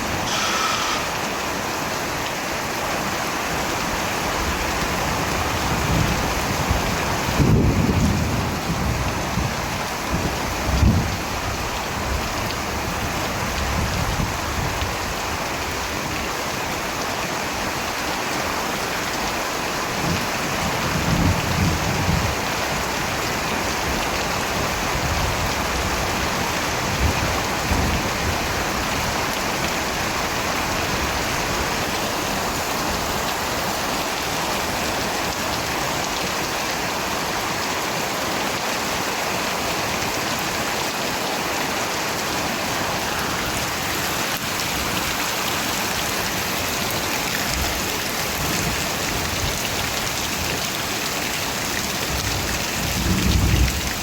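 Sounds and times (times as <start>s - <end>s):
steady dense rainfall: 0.0s - 54.0s.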